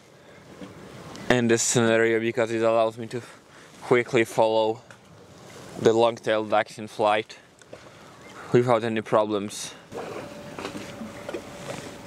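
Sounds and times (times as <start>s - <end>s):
background hiss: 0.0s - 12.0s
faint steady hum: 0.0s - 12.0s.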